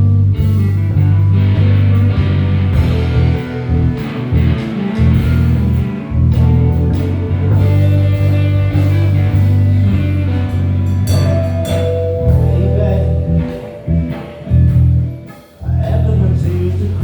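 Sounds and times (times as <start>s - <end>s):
bass guitar: 0.0s - 17.0s
drum kit: 0.0s - 17.0s
electric guitar: 0.0s - 17.0s
keyboard: 0.0s - 17.0s.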